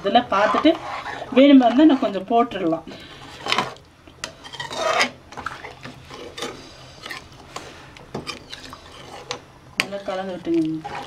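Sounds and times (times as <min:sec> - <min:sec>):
ladle scraping pot: 0:00.3 - 0:02.4, 0:03.3 - 0:11.0.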